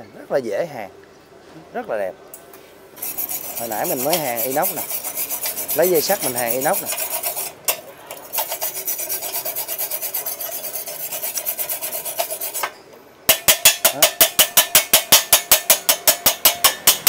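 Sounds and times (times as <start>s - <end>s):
scraping on steel: 3.0s - 17.0s.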